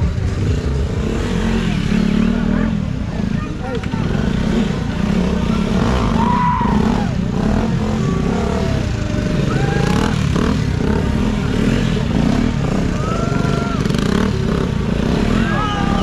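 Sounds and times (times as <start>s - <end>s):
motorcycle engines droning: 0.0s - 16.0s.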